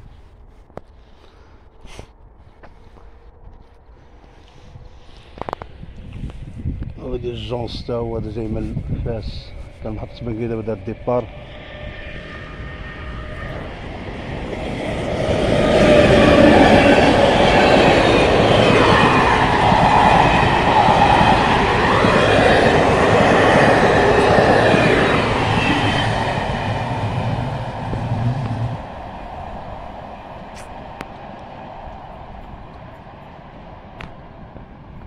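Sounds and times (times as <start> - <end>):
passenger train passing: 2.9 - 35.0.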